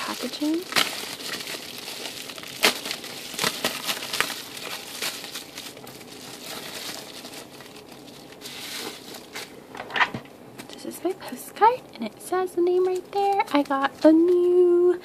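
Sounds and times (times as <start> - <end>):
bubble wrap crinkling: 0.0 - 9.8, 11.6 - 15.0.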